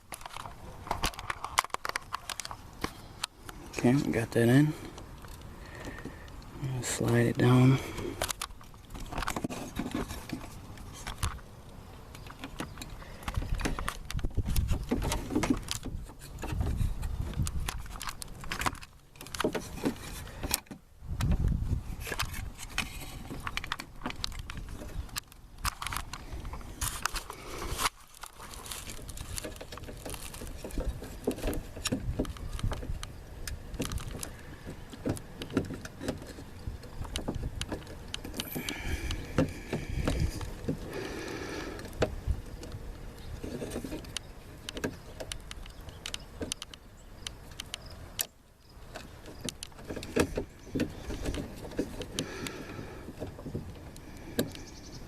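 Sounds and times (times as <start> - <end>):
rods and clips rattling: 0.0 - 11.4, 12.1 - 54.6
handling noise: 0.0 - 54.7.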